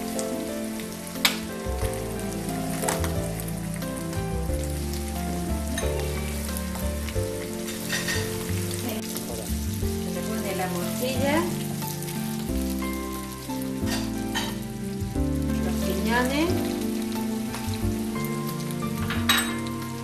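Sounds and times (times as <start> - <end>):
background music: 0.0 - 20.0
food sizzling in oil: 0.0 - 20.0.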